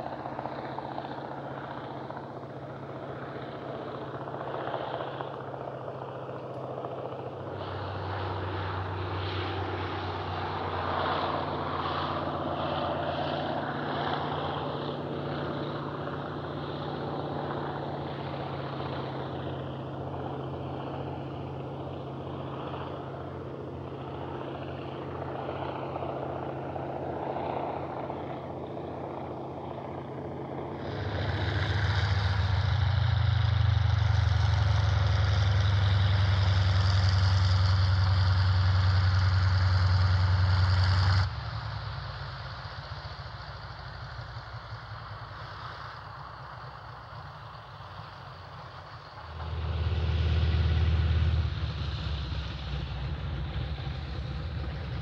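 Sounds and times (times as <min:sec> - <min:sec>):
close engine deep drone: 0:00.0 - 0:55.0
plane radial engine climbing: 0:00.0 - 0:55.0.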